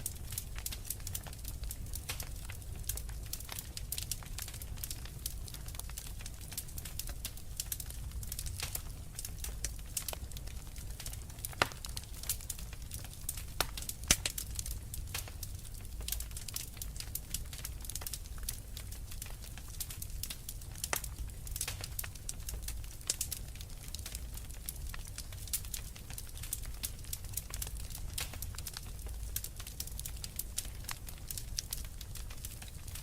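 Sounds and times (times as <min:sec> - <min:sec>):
low rumble of fire: 0:00.0 - 0:33.0
wood fire crackling and popping: 0:00.0 - 0:33.0.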